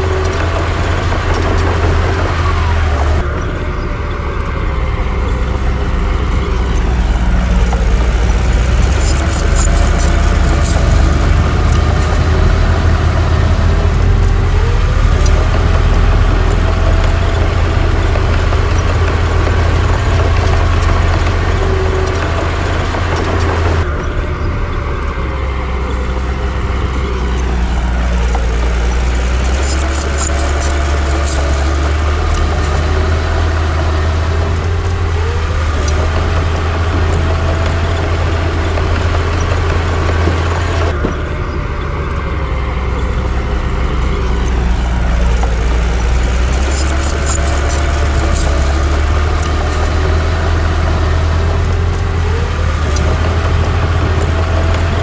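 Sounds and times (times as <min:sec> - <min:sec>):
clicking: 0:00.0 - 0:41.3, 0:41.9 - 0:55.0
bulldozer diesel engine running: 0:00.0 - 0:55.0.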